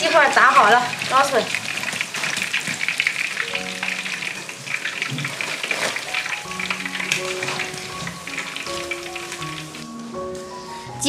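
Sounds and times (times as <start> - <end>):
chicken deep-frying in oil: 0.0 - 10.8.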